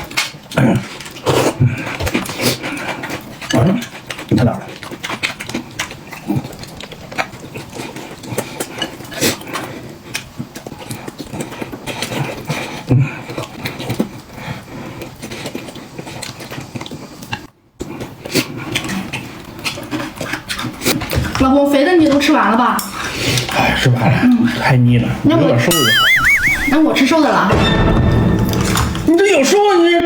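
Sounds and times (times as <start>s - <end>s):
chewing and slurping: 0.0s - 24.8s.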